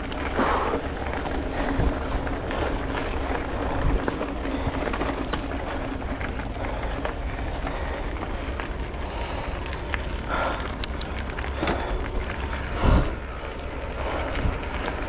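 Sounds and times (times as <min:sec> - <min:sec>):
tyre and road noise: 0:00.0 - 0:15.0
wind rumbling on microphone: 0:00.0 - 0:15.0.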